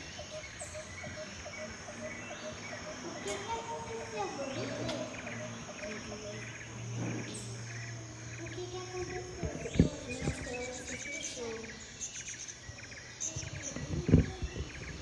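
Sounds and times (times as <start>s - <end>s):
bird calls: 0.0s - 15.0s
crickets chirping: 0.0s - 15.0s
steady low hum: 0.0s - 15.0s.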